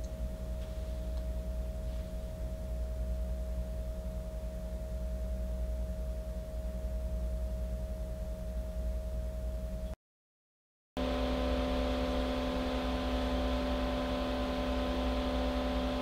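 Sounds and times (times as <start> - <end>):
computer cooling fan whine: 0.0 - 10.0, 11.0 - 16.0.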